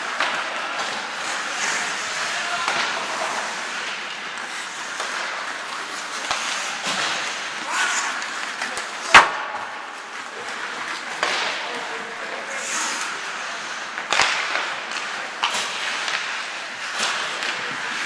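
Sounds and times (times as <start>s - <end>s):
hockey sticks and puck knocking: 0.0s - 11.8s, 13.9s - 18.0s
skates hissing on ice: 0.3s - 9.1s, 12.2s - 18.0s.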